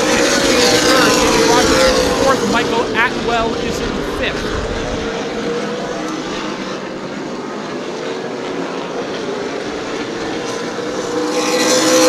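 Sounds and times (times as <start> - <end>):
race car engines roaring: 0.0 - 12.0.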